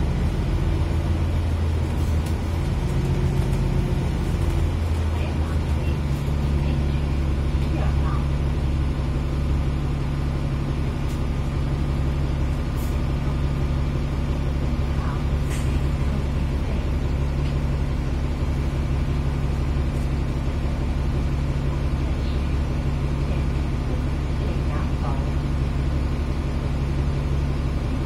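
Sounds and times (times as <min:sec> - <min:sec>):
bus engine humming: 0:00.0 - 0:28.0.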